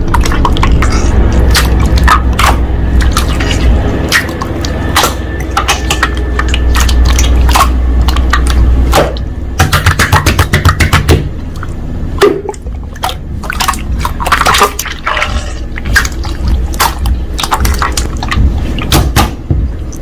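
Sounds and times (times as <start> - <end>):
slime squelching: 0.0 - 20.0.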